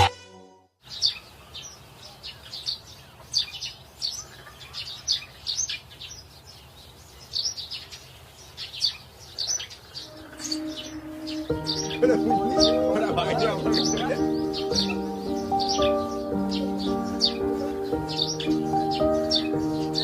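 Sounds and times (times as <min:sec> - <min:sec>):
birds chirping: 0:00.8 - 0:20.0.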